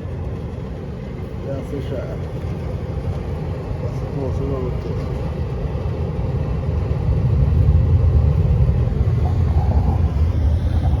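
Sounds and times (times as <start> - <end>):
air-conditioning unit rumbling: 0.0 - 11.0.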